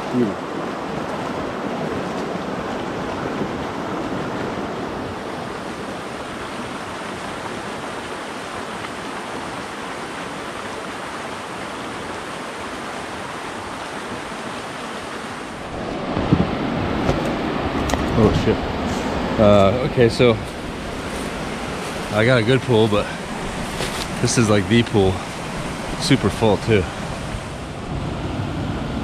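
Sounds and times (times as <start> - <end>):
creek water rushing over rocks: 0.0 - 29.0.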